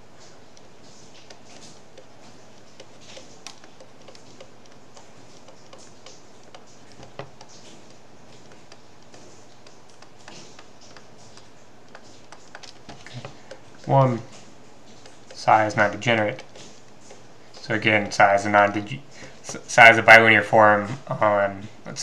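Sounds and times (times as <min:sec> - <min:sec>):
stylus tapping and scratching: 0:00.0 - 0:20.3.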